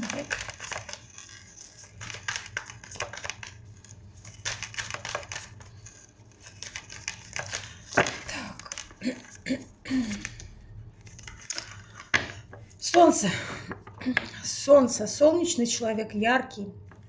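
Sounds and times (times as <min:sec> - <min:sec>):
cards rustling and clicking: 0:00.0 - 0:14.4.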